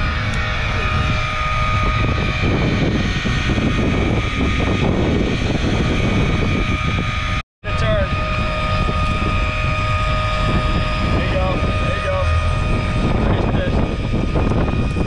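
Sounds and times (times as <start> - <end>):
electric reel motor whining: 0.0 - 15.0
wind rumble on microphone: 0.0 - 15.0.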